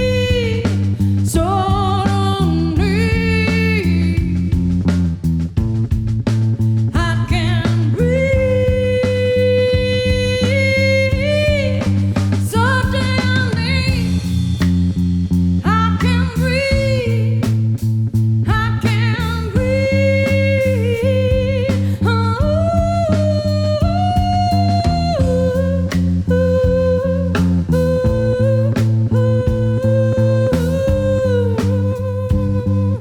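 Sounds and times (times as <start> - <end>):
bass guitar: 0.0 - 33.0.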